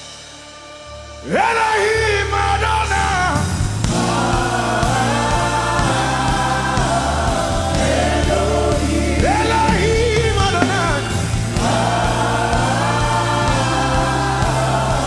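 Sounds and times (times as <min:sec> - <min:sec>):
choir singing held chords: 0:00.0 - 0:15.0
steady bass notes: 0:00.8 - 0:15.0
lead voice singing: 0:01.2 - 0:15.0.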